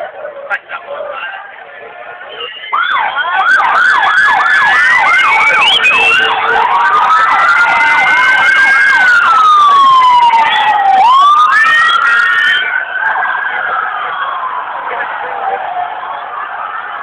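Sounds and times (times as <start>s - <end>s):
siren yelp and wail: 2.7s - 17.0s.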